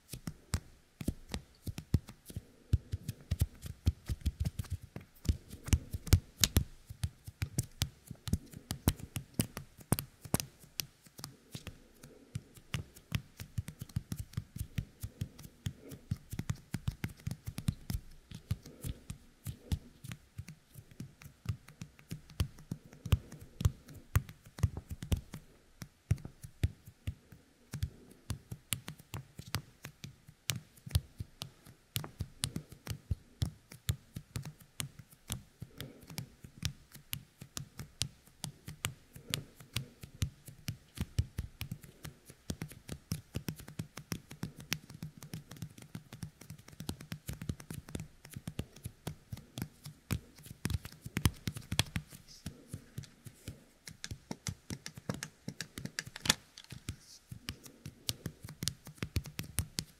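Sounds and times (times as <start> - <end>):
sticky fingertips clicking and crackling: 0.0 - 59.9.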